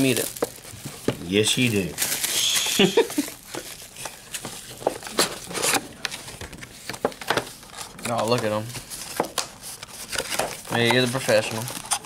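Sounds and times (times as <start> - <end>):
shrink wrap crinkling: 0.0 - 12.0.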